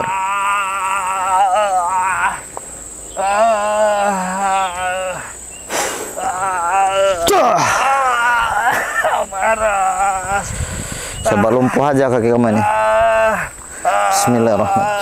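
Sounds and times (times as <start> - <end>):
man wailing in pain: 0.0 - 2.5, 3.2 - 5.4, 6.1 - 10.6, 11.3 - 15.0.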